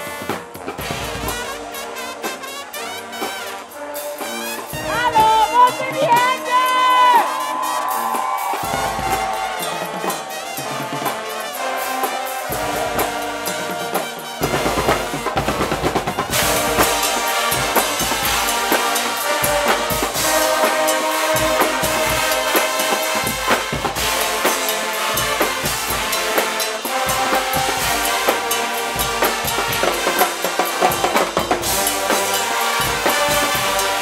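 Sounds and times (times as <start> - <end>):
brass instruments: 0.0 - 34.0
loud driving drums: 0.0 - 34.0.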